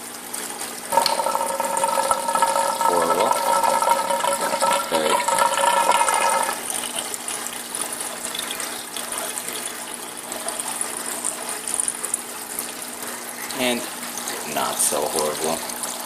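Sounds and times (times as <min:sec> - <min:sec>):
rush of draining water: 0:00.0 - 0:16.0
whistling gurgling drain: 0:00.9 - 0:16.0.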